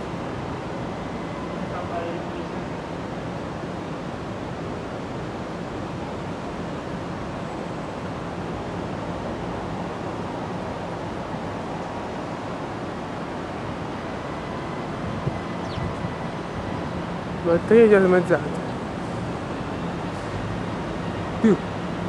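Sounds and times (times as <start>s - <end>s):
city roar: 0.0s - 22.0s.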